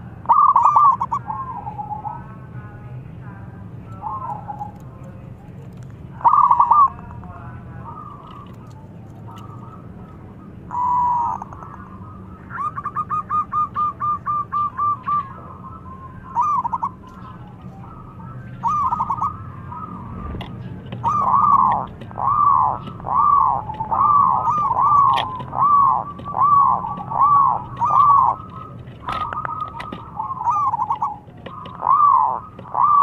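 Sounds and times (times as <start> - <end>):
dove cooing: 0.0 - 2.4, 3.9 - 5.0, 6.1 - 33.0.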